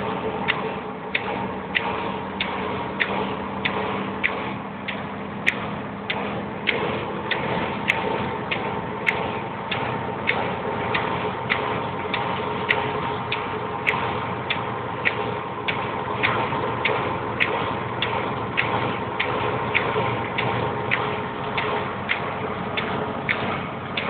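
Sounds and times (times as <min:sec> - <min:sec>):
car engine and road noise: 0:00.0 - 0:24.0
sharp regular ticking: 0:00.0 - 0:24.0.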